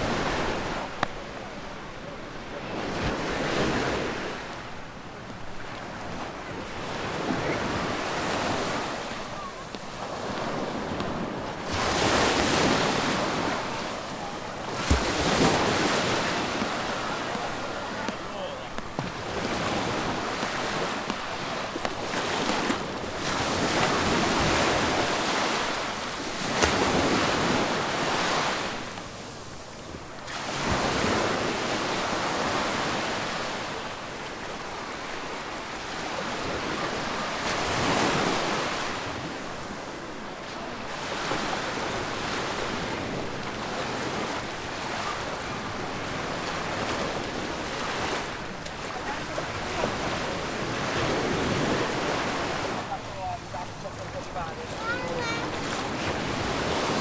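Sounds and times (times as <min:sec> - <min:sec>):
sea waves washing onto beach: 0:00.0 - 0:57.0.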